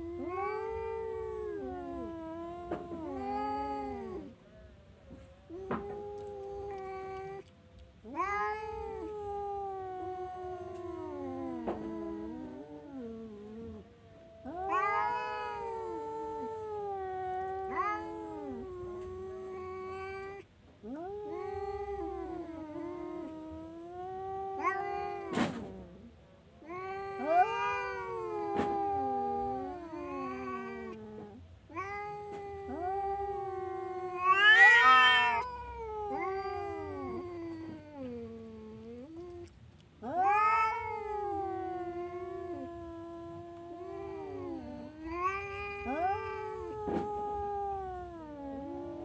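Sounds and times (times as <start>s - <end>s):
cat yowling: 0.0s - 4.4s, 5.1s - 49.0s.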